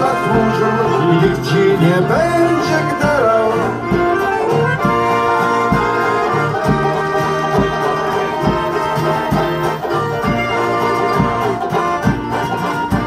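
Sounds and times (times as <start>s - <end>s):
accordion: 0.0s - 13.0s
acoustic guitar: 0.0s - 13.0s
banjo: 0.0s - 13.0s
low drum beat: 0.0s - 13.0s.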